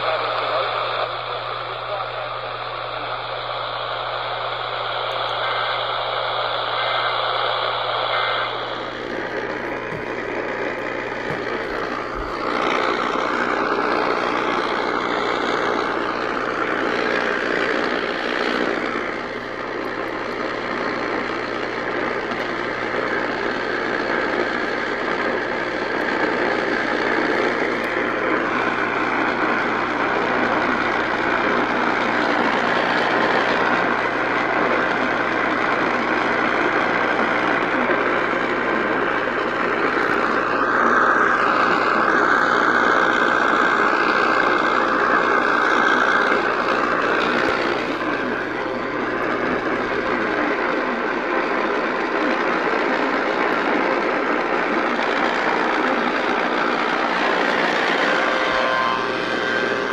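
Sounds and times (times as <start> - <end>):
low hum: 0.0 - 59.9
radio static hiss: 0.0 - 59.9.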